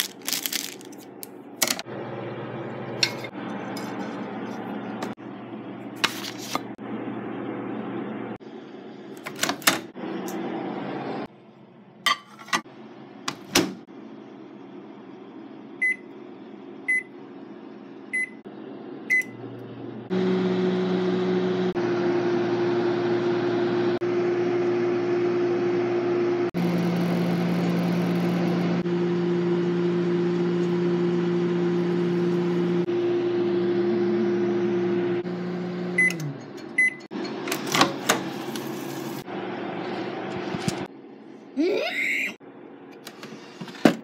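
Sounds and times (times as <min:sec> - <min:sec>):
microwave oven humming: 0:00.0 - 0:44.0.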